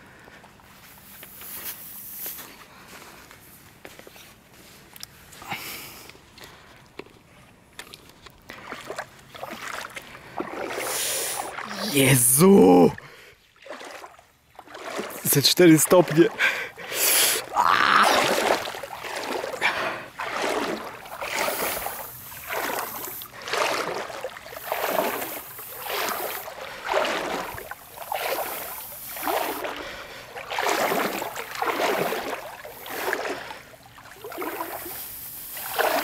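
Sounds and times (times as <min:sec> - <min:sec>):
wading through shallow water: 0:00.0 - 0:36.0.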